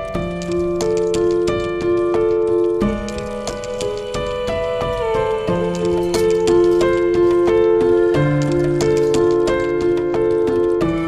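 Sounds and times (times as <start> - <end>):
light ticking beat: 0.0 - 11.0.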